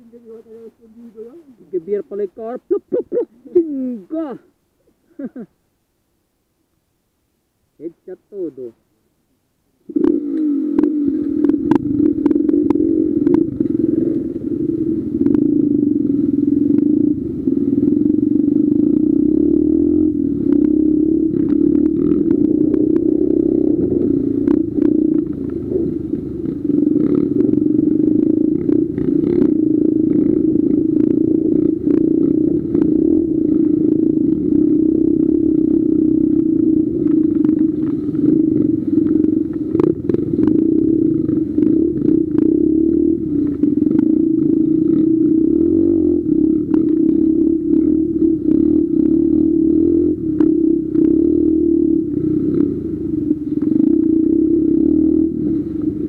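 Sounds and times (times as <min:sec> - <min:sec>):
dirt bike engine running: 0:00.0 - 0:04.4, 0:09.8 - 0:56.0.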